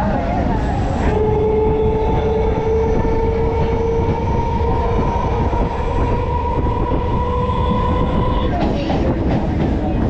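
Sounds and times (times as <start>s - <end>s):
train wheels rumbling on rail: 0.0s - 10.0s
train motor whine: 0.5s - 8.8s.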